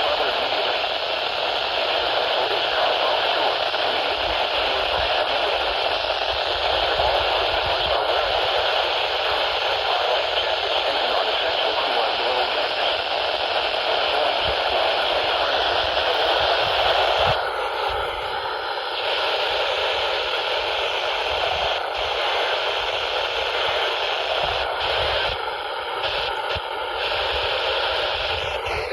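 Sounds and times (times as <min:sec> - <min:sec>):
faint radio signal: 0:00.0 - 0:28.9
heavy radio static: 0:00.0 - 0:28.9.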